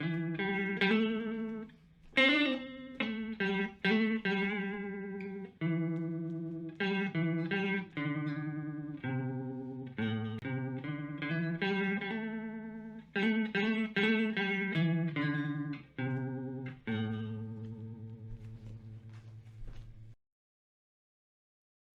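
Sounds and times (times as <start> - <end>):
electric guitar with wavering modulation: 0.0 - 20.2.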